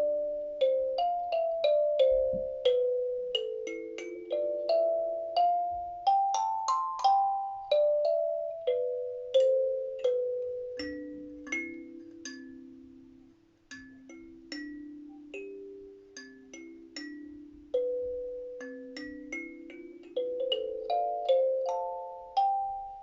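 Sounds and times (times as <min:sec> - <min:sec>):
kalimba notes: 0:00.0 - 0:23.0.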